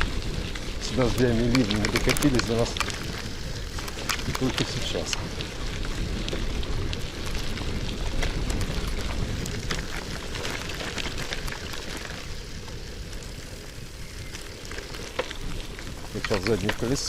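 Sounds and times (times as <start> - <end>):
bicycle tyres on wet dirt: 0.0 - 17.0.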